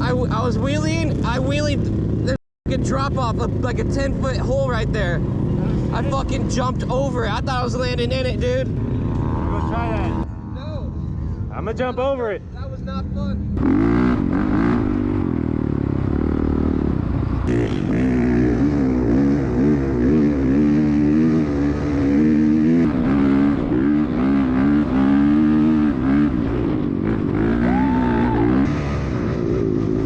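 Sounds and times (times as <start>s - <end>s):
dirt bike engine revving: 0.0s - 10.6s, 13.4s - 30.0s.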